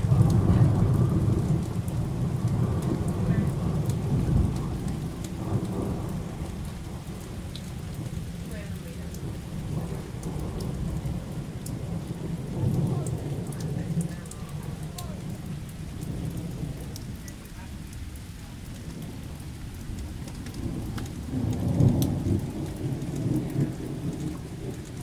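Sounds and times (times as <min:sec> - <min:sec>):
sharp drip ticks: 0:00.0 - 0:25.0
steady rain: 0:00.0 - 0:25.0
thunder rumbling: 0:00.0 - 0:25.0.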